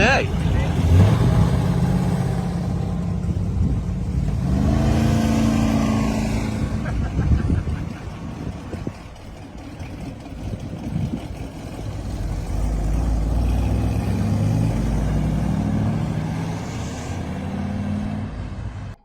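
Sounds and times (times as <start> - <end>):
car engine with deep exhaust: 0.0 - 19.0.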